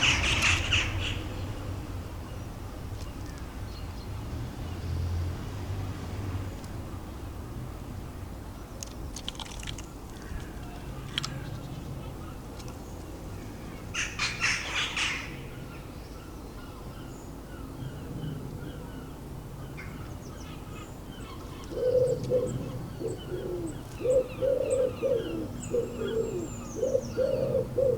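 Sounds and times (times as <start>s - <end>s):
city traffic rumble: 0.0s - 27.9s.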